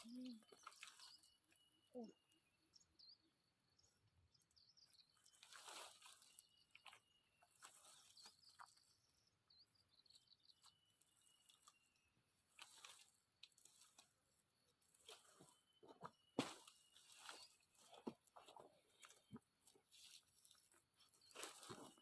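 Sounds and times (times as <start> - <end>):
dry vegetation rustling and crunching: 0.0 - 1.7, 4.8 - 9.2, 10.0 - 22.0
faint high bird chirps: 0.0 - 13.2, 14.3 - 19.4.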